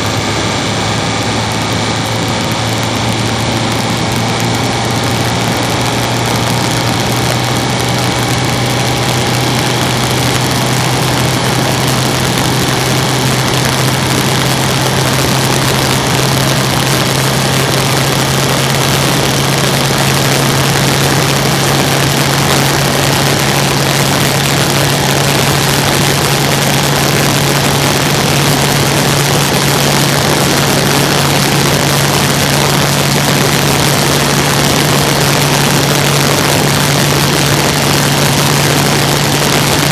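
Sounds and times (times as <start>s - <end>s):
diesel engine running: 0.0s - 39.9s
loud rushing noise: 0.0s - 39.9s.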